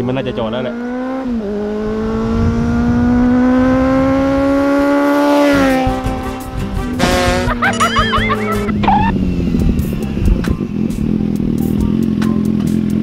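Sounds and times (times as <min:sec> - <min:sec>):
motorcycle engine passing by: 0:00.7 - 0:13.0.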